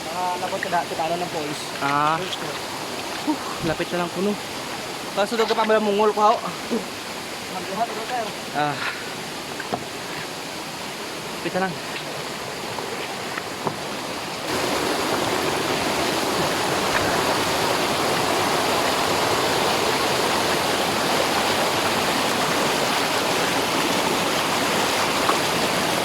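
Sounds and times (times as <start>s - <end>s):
stream and waterfall rushing: 0.0s - 26.0s.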